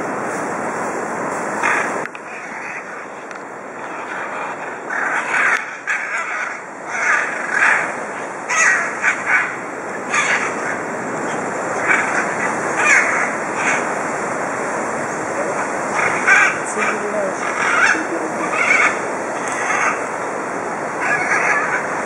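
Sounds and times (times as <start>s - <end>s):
steady rushing background noise: 0.0s - 22.0s
macaws squawking: 1.6s - 14.1s, 15.4s - 22.0s.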